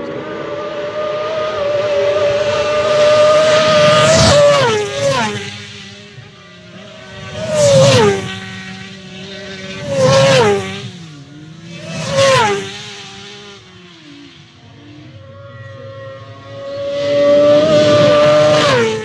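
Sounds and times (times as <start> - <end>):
racing motorcycles passing: 0.0 - 19.0.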